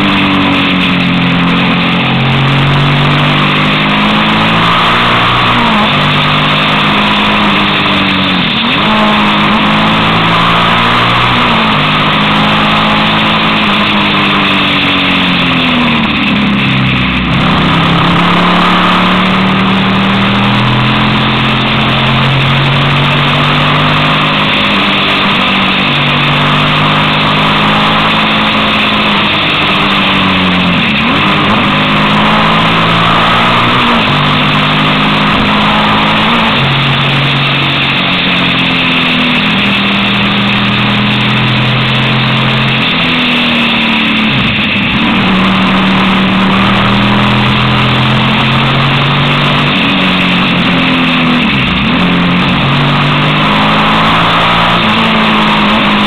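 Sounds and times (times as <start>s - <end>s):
motorcycle engine under way: 0.0s - 56.0s.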